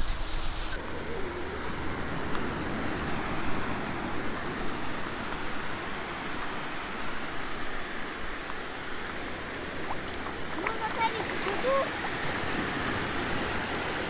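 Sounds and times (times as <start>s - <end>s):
waves breaking on beach: 0.7s - 14.0s.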